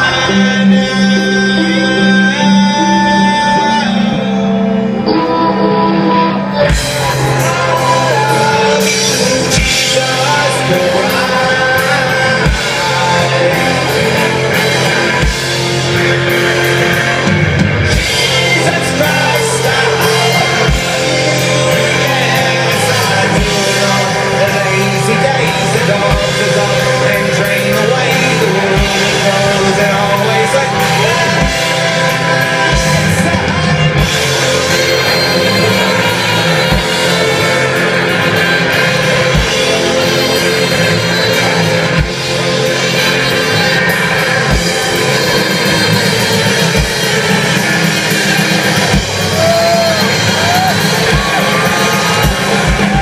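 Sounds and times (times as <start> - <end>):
live rock band with singing: 0.0 - 53.0.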